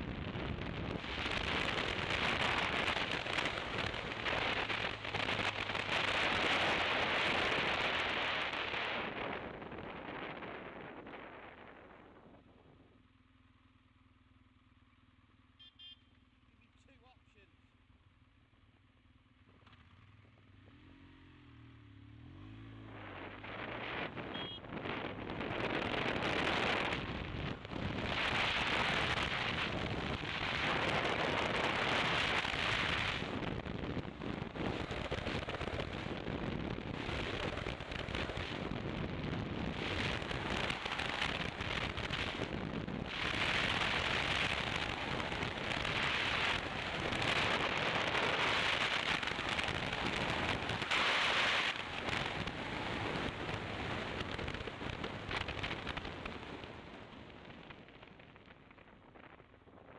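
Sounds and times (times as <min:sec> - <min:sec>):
faint motorcycle engine: 0:09.0 - 0:59.9.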